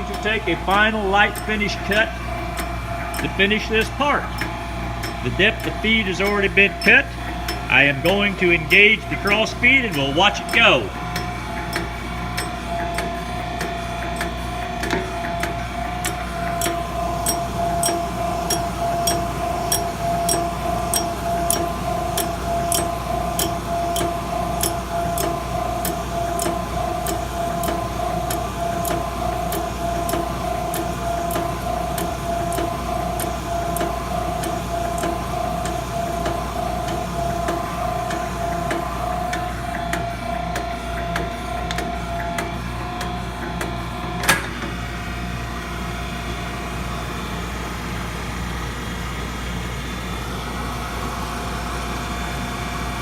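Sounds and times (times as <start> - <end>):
pulsing tone and light ticks: 0.0 - 43.8.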